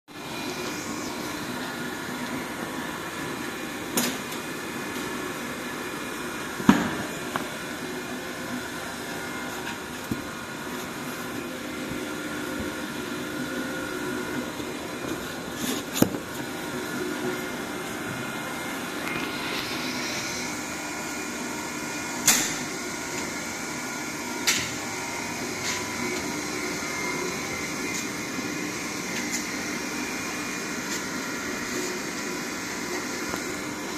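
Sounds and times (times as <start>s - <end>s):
sealing machine blower noise: 0.2s - 33.9s.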